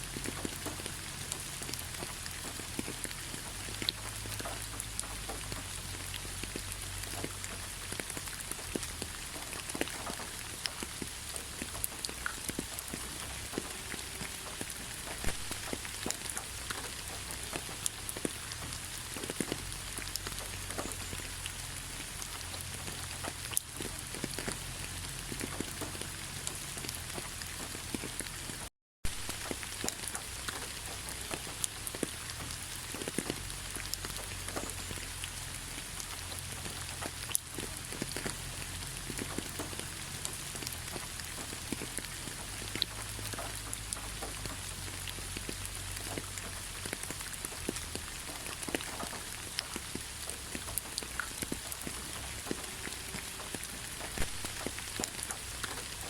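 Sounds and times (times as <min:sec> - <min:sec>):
raindrops ticking on a surface: 0:00.0 - 0:56.0
steady rain falling: 0:00.0 - 0:56.0.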